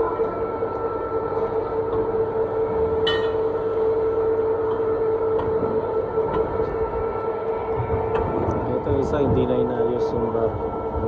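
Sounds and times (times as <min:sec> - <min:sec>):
winch mechanical hum: 0:00.0 - 0:11.0.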